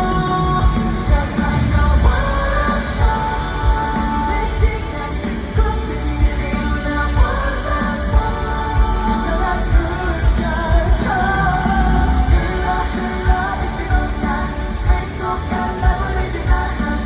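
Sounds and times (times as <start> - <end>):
male vocals singing: 0.0 - 17.0
pop backing track with heavy bass: 0.0 - 17.0.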